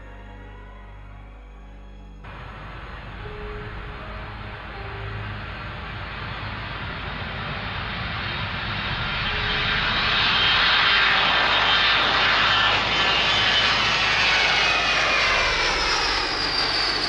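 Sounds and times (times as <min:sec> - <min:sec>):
high engine whine: 0:01.8 - 0:17.0
jet engines roaring: 0:02.2 - 0:17.0.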